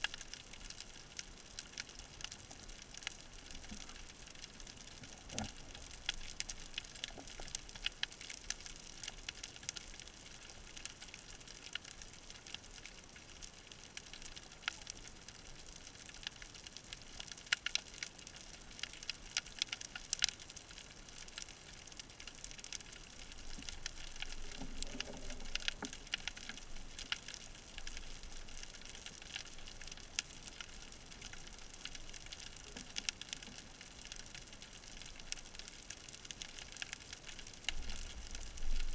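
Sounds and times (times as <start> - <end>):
crackling clicks: 0.0 - 38.9.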